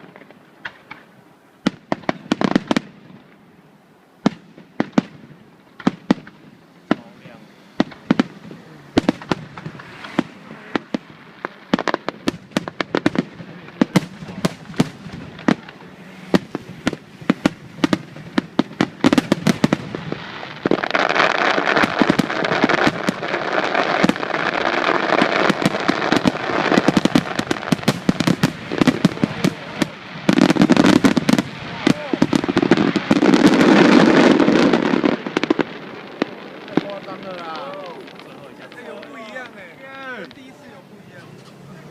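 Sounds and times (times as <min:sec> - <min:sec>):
dense fireworks crackle: 0:00.0 - 0:41.9
fireworks bangs: 0:00.0 - 0:41.9.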